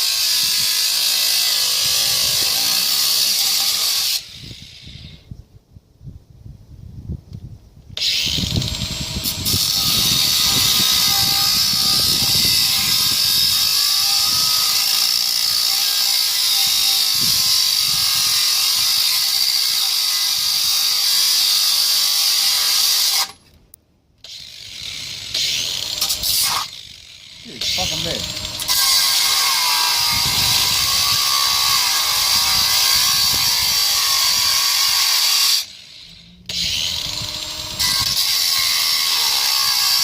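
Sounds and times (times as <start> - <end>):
angle grinder cutting metal: 0.0 - 5.2, 8.0 - 23.4, 24.2 - 40.0.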